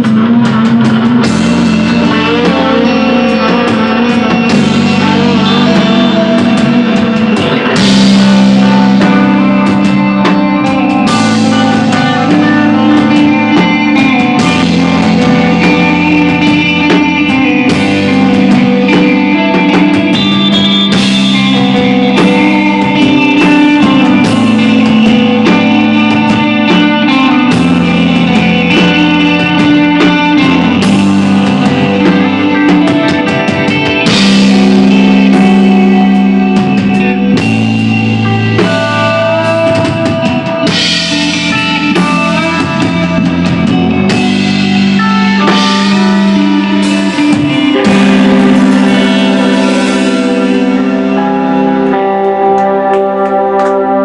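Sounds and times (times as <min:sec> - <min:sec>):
electric guitar ringing notes: 0:00.0 - 0:54.0
rock band playing: 0:00.0 - 0:54.0.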